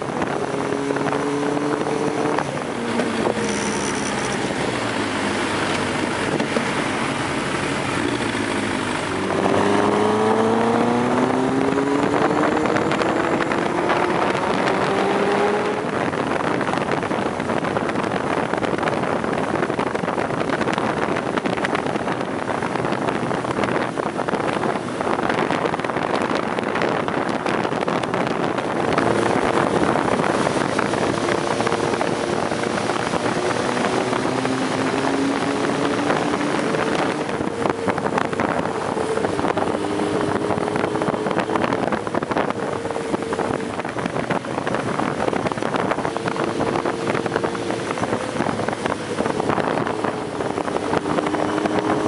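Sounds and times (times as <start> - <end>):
motorcycle engine revving: 0.0 - 52.0
wind rushing over microphone: 0.0 - 52.0.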